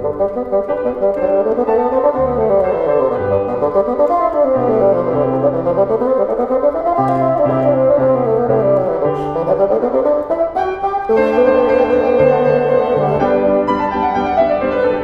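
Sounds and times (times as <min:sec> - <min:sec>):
bassoon playing running passages: 0:00.0 - 0:15.0
piano accompaniment: 0:00.0 - 0:15.0.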